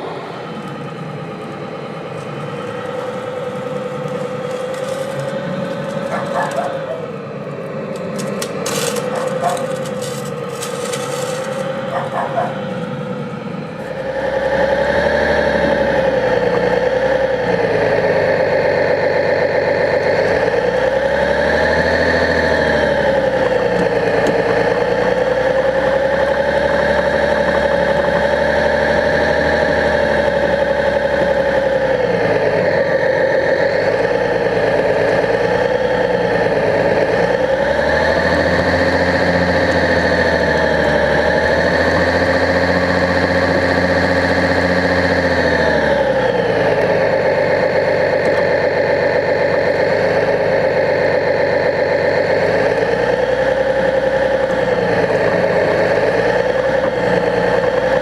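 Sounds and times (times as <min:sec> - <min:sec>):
model bulldozer engine drone: 0:00.0 - 0:58.0.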